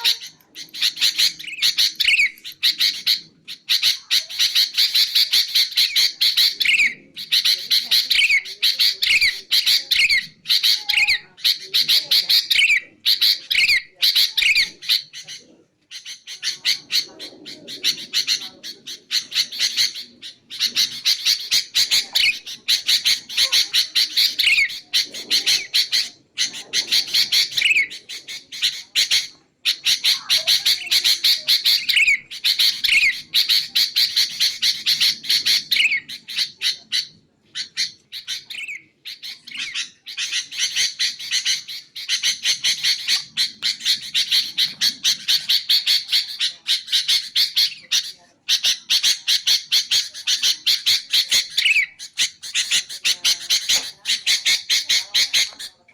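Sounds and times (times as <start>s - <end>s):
bird chattering: 0.0s - 55.9s.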